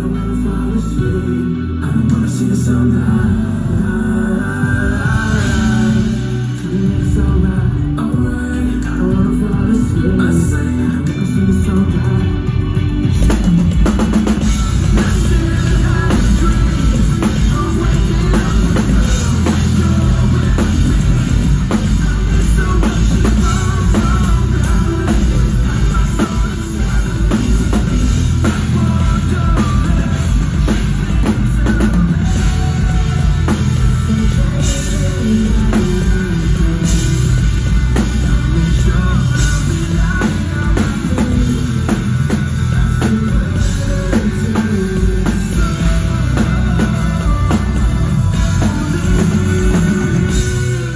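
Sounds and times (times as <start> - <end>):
bass guitar: 0.0 - 50.9
drum kit: 0.0 - 50.9
electric guitars: 0.0 - 50.9.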